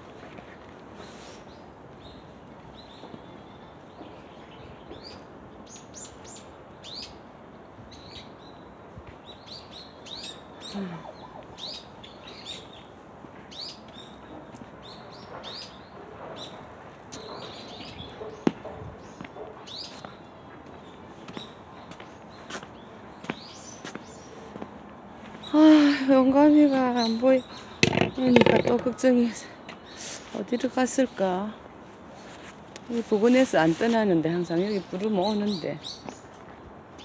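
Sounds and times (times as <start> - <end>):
steady background noise: 0.0 - 37.0
small birds chirping: 0.4 - 37.0.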